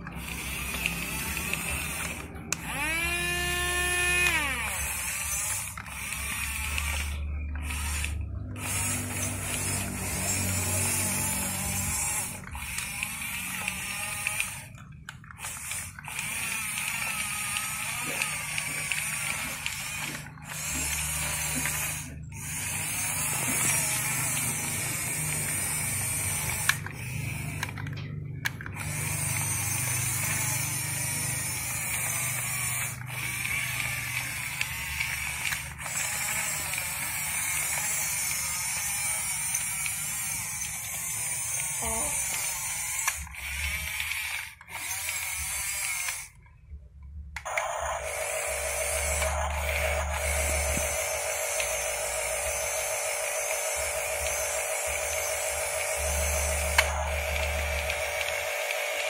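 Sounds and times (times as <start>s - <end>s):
toy motors whirring: 0.0s - 46.5s, 47.3s - 59.0s.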